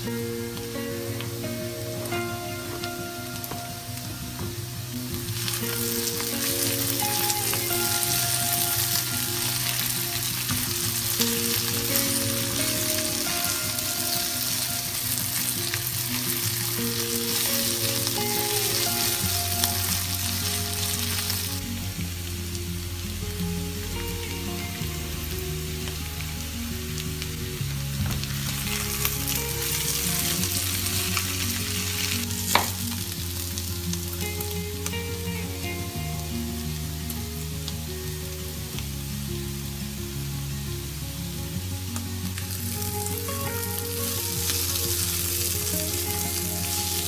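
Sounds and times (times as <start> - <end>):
soft background music: 0.0 - 47.0
vegetables sizzling in hot oil: 0.0 - 47.0.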